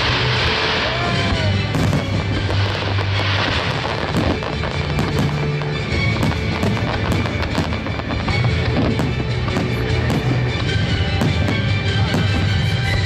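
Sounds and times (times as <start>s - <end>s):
fireworks bursting with sharp cracks: 0.0s - 13.0s.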